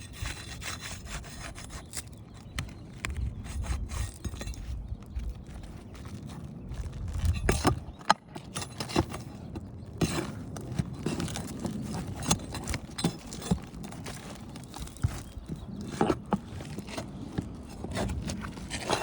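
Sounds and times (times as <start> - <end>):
roof shingle being pried loose: 0.0 - 19.0.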